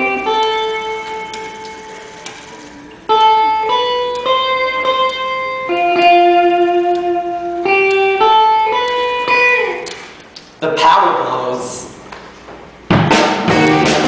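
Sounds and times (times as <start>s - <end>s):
electric guitar slow melody: 0.0s - 10.4s, 13.1s - 14.0s.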